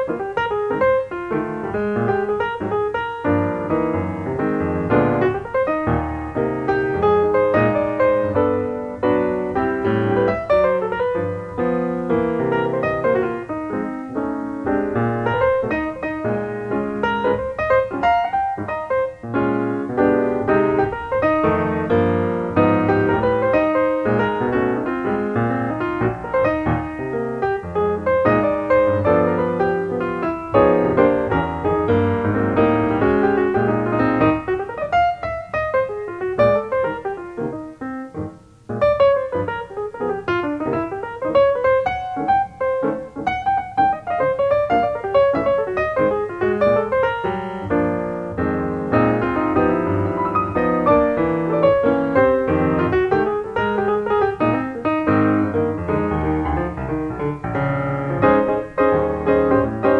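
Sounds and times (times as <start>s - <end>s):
piano music quick notes: 0.0s - 59.9s.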